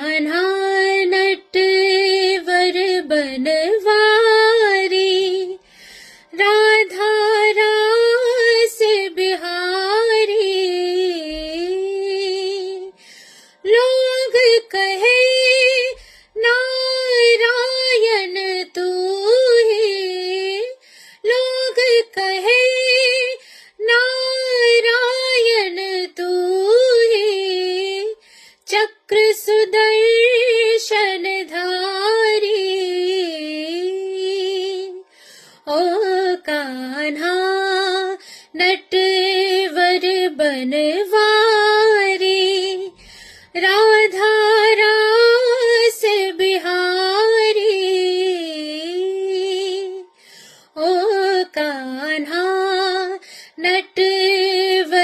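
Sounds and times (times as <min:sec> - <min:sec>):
woman singing devotional song: 0:00.0 - 0:55.0.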